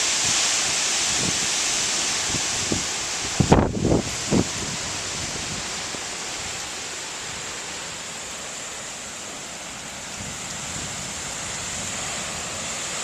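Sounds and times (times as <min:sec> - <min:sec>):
wind through leaves: 0:00.0 - 0:13.0.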